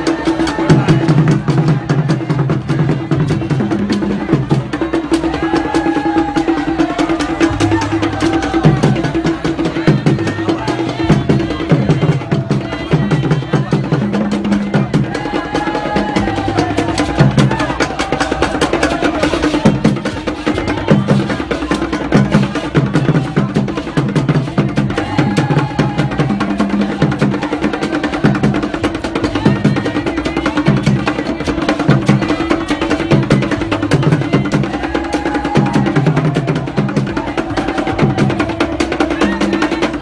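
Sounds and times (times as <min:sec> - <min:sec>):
drums beating low pattern: 0:00.0 - 0:40.0
fast percussion clicks: 0:00.0 - 0:40.0.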